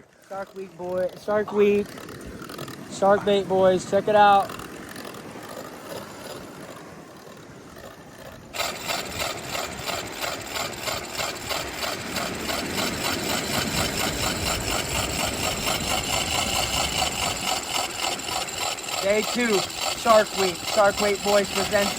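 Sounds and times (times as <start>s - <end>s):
fishing reel drag screaming: 0.0s - 21.9s.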